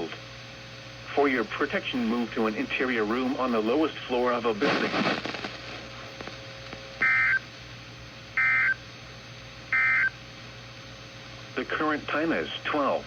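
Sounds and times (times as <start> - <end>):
faint radio hiss: 0.0 - 13.0.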